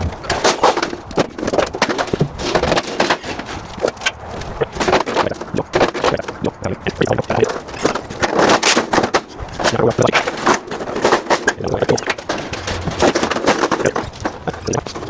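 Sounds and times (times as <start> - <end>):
roof sheets clattering and scraping: 0.0 - 15.0.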